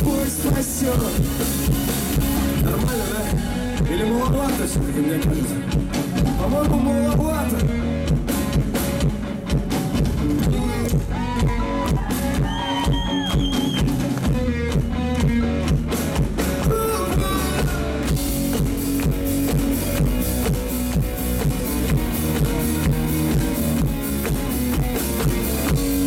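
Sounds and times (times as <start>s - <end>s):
live instrumental music with drums: 0.0s - 26.0s.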